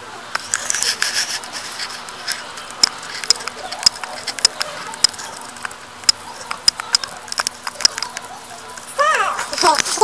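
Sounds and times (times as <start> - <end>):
soft steady rustle: 0.4 - 10.0.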